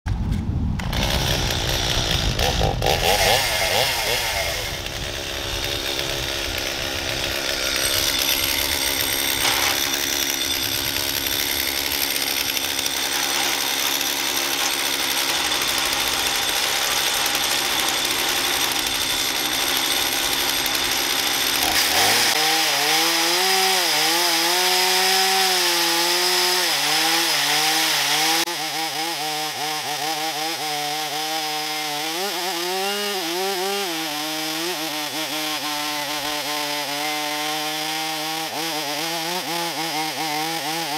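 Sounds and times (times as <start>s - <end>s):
chainsaw cutting log: 0.7s - 40.9s.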